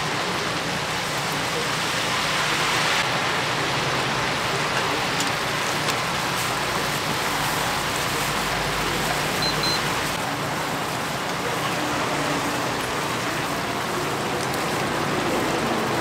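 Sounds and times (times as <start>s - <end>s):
oil sizzling deep-frying: 0.0s - 16.0s.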